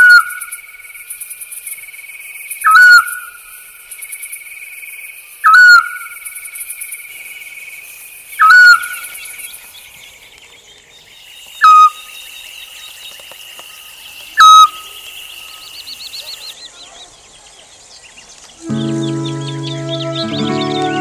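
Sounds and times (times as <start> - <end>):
insects chirring: 0.0 - 20.6.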